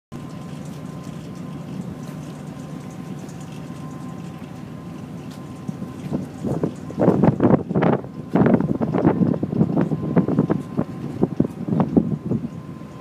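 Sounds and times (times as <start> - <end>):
ferry engine rumbling: 0.1 - 13.0
wind buffeting microphone: 0.4 - 13.0.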